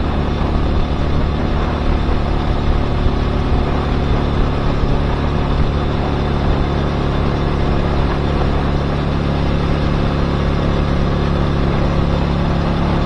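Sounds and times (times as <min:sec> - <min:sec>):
motorcycle engine running: 0:00.0 - 0:13.0
rushing noise: 0:00.0 - 0:13.0.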